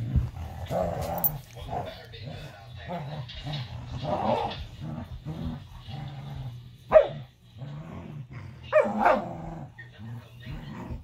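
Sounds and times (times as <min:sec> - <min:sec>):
dogs growling: 0:00.0 - 0:11.0.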